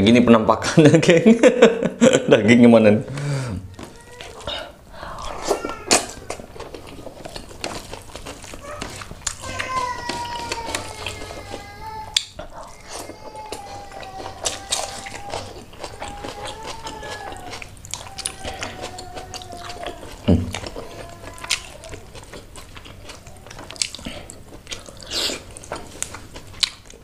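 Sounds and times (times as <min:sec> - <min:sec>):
close chewing and crunching: 0:03.7 - 0:27.0.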